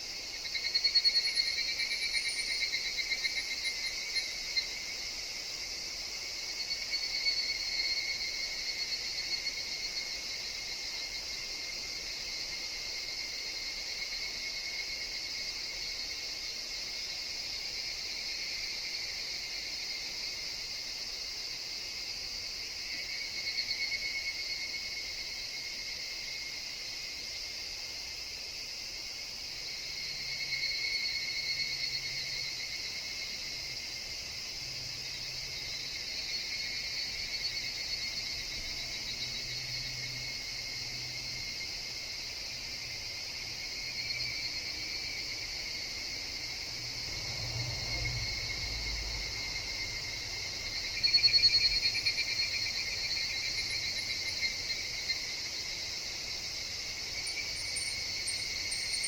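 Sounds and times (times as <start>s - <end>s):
evening cicadas calling: 0.0s - 59.0s.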